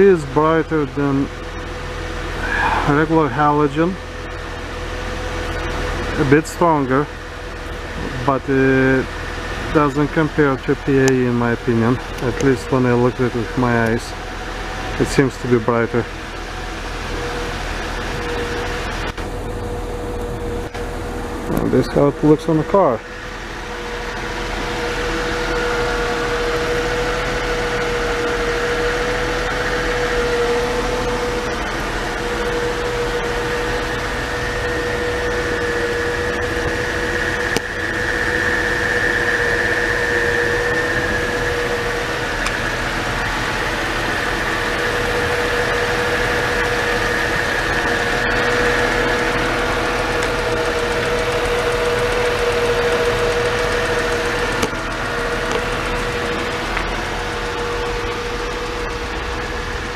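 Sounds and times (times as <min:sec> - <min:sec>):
car engine idling with whine: 0:00.0 - 0:59.9.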